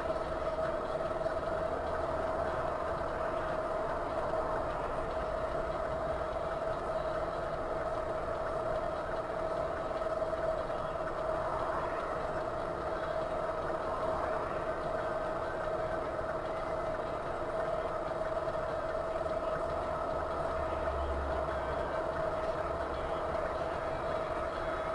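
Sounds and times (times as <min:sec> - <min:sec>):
constant steady hum: 0:00.0 - 0:24.9
road noise: 0:00.0 - 0:24.9.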